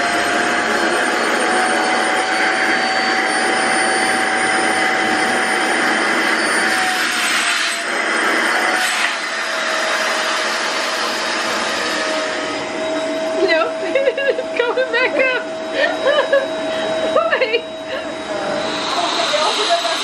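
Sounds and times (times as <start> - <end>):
electric vacuum pump whining: 0.0 - 20.0.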